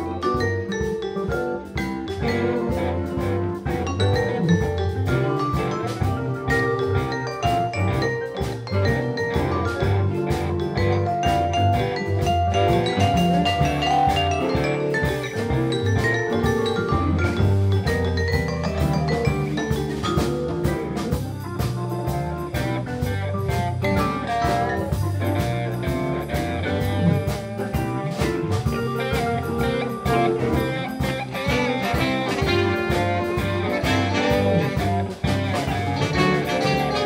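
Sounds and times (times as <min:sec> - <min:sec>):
blues band playing: 0:00.0 - 0:37.0.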